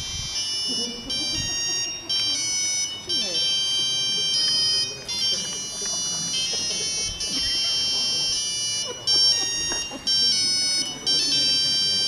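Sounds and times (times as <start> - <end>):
electronic beep melody: 0.0 - 12.0
faint voices: 0.1 - 12.0.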